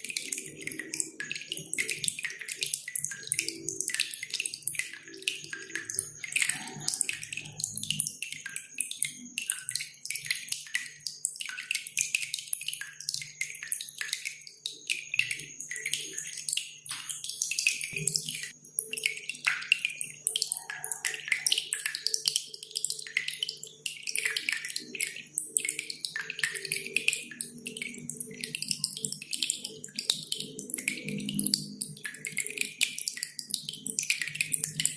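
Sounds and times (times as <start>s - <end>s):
dripping water: 0.0s - 34.9s.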